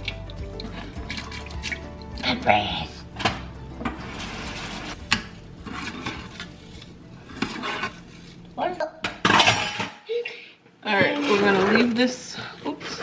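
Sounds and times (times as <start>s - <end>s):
utensil scraping in a pot: 0.0s - 8.6s, 11.1s - 13.0s.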